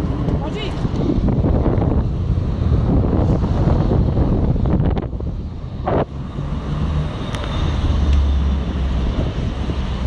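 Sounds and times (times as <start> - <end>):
road traffic: 0.0 - 10.0
vehicle engine rumble: 0.0 - 10.0
wind rushing over microphone: 0.0 - 10.0.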